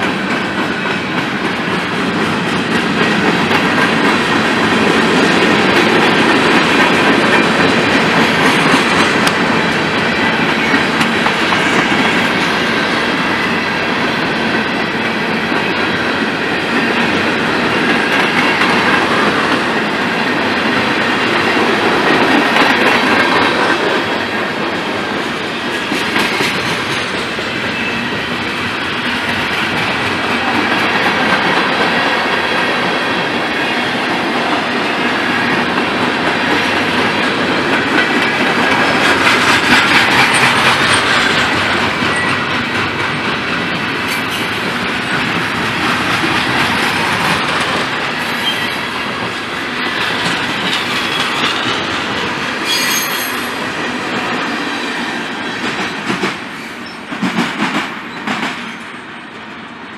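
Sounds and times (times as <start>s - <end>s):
wheels clacking over rail joints: 0.0s - 54.6s.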